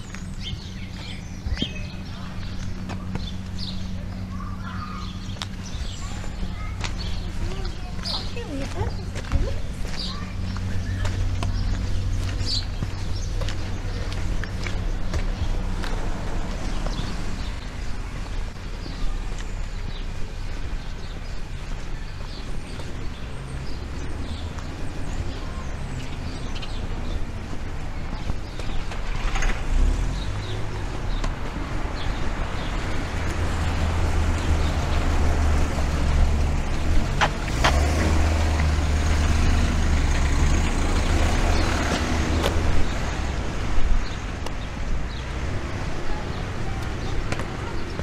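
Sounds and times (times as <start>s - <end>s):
vehicle engine and tyre rumble: 0.0s - 48.0s.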